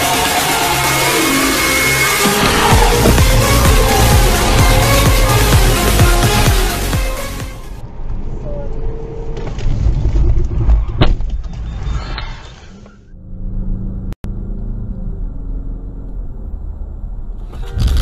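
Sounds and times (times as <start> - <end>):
car engine and road rumble: 0.0 - 11.8, 12.4 - 18.0.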